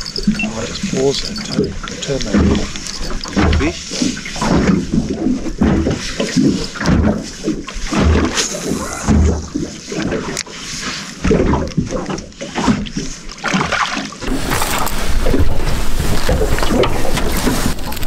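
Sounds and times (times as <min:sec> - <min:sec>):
water splashing against boat hull: 0:00.0 - 0:18.0.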